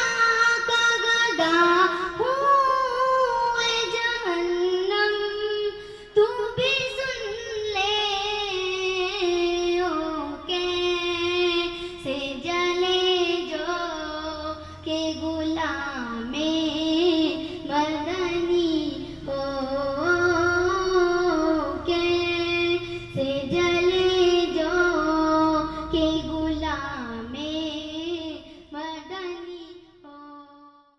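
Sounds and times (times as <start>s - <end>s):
child singing devotional song: 0.0s - 30.9s.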